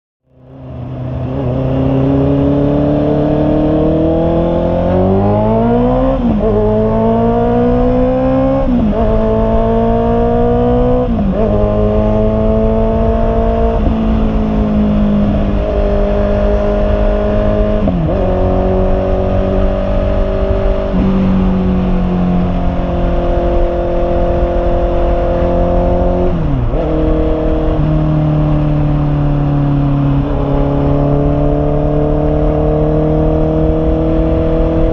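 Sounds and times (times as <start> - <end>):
motorcycle engine shifting gears: 0.4 - 34.9.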